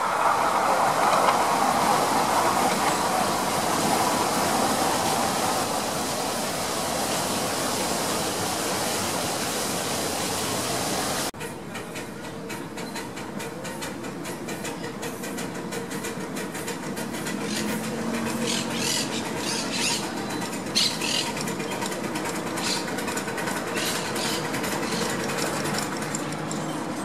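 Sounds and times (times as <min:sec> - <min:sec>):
train wheels clicking on track: 0:00.0 - 0:27.0.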